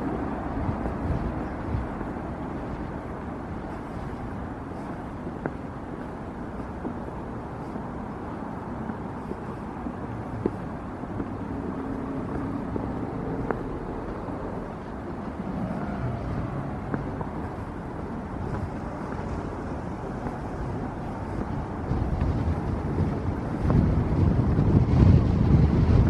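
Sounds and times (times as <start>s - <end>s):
low rumble of road traffic: 0.0s - 26.0s
wind on microphone: 0.0s - 26.0s.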